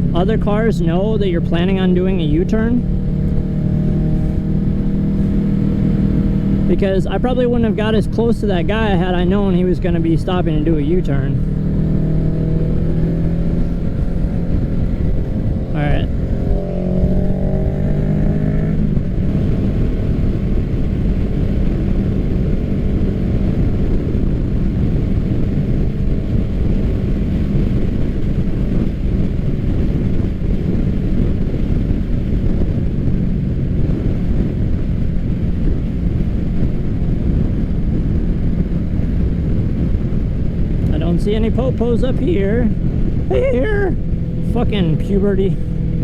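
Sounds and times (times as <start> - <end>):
motorcycle engine cruising: 0.0 - 46.0
road and wind noise: 0.0 - 46.0.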